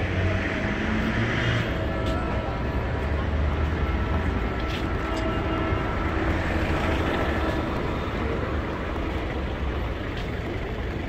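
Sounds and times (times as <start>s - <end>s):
traffic rumbling past: 0.0s - 11.0s.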